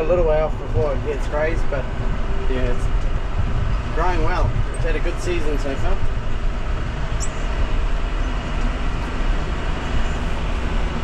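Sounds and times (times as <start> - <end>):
farm vehicle engine rumbling: 0.0 - 11.0.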